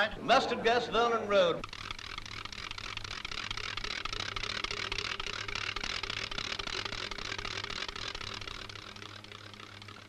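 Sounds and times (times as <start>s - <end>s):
low constant hum: 0.0s - 10.0s.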